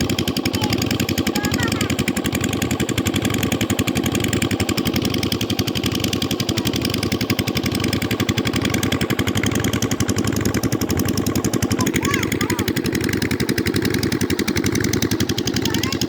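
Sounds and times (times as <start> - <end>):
engine chugging: 0.0 - 16.0.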